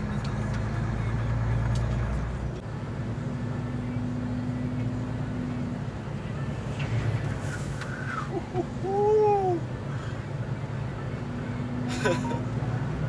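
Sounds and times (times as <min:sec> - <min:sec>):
road noise: 0:00.0 - 0:13.0
truck diesel engine in cab: 0:00.0 - 0:13.0.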